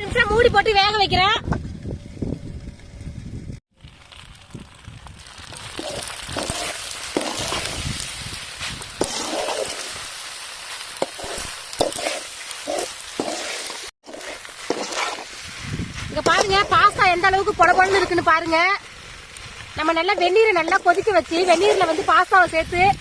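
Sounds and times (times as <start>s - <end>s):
pasta sizzling in a pan: 3.9s - 23.0s.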